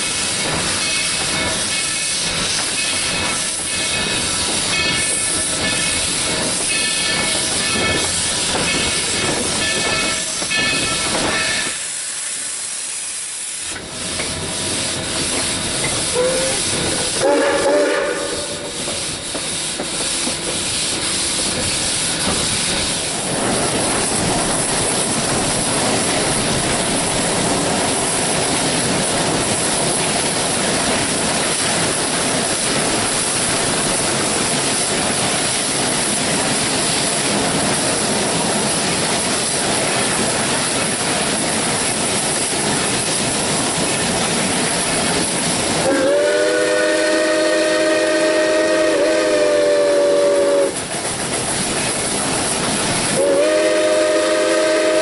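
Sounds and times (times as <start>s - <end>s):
steam hissing: 0.0s - 55.0s
train running on rails: 0.0s - 55.0s.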